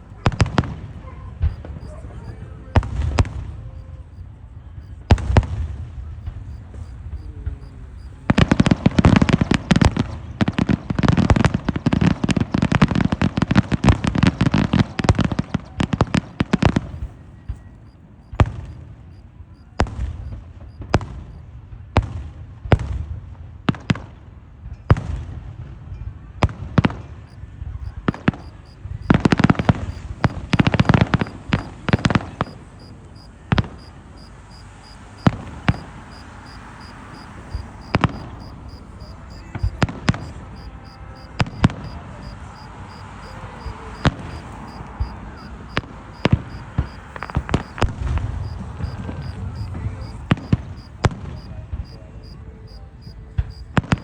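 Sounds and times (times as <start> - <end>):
fireworks cracking and banging: 0.0 - 3.9, 5.0 - 18.9, 26.8 - 54.0.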